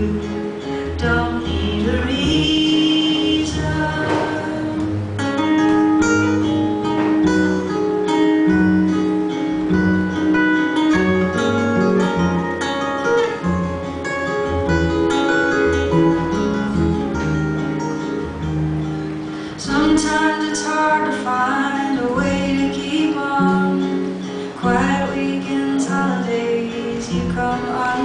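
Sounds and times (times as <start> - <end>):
acoustic guitar picking: 0.0 - 28.0
bass line: 0.0 - 28.0.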